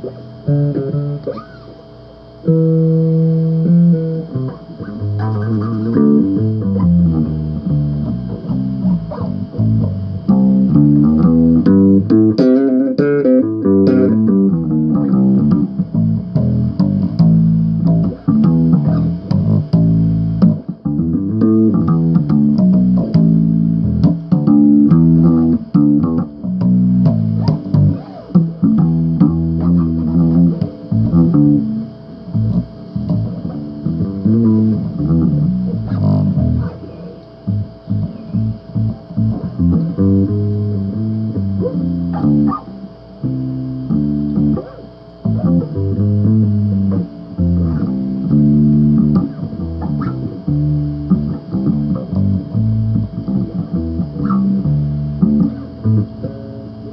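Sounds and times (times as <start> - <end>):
bass guitar riffing: 0.0 - 56.9.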